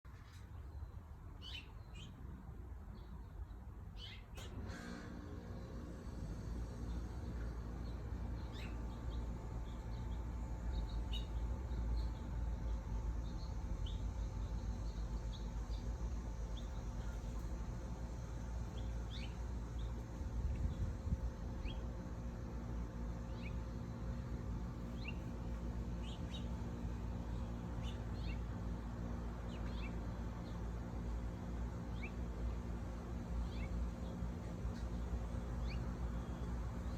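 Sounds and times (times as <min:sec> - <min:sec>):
small birds chirping: 0:00.2 - 0:02.2, 0:02.9 - 0:04.5, 0:06.5 - 0:36.9.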